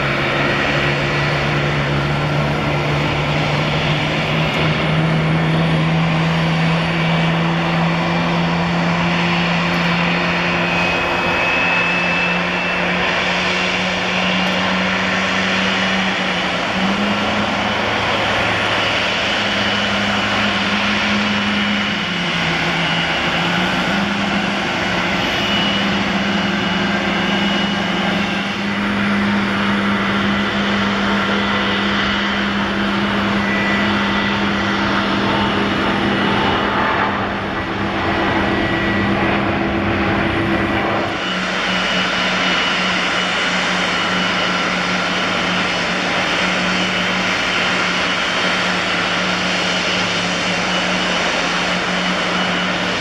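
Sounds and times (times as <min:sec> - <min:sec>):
airliner engines running: 0:00.0 - 0:53.0.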